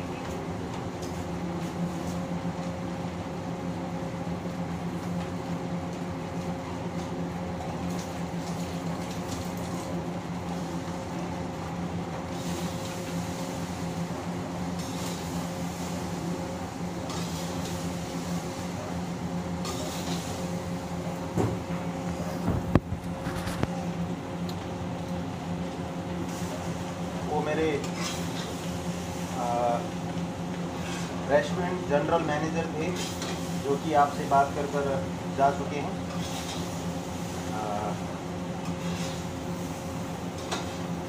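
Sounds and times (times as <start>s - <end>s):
exhaust hood fan drone: 0.0s - 41.0s.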